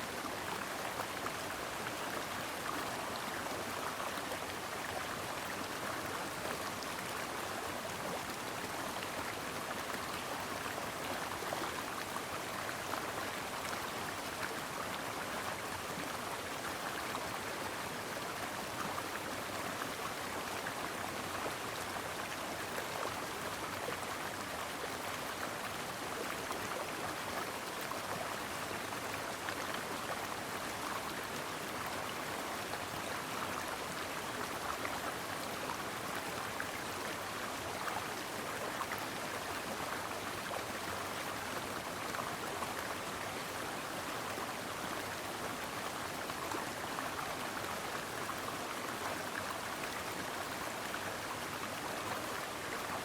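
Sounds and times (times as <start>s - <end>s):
brook water flowing: 0.0s - 53.0s.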